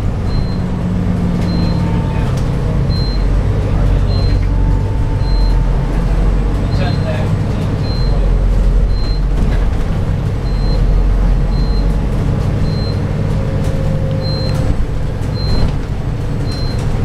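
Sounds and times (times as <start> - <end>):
bus drivetrain and road drone: 0.0 - 17.0.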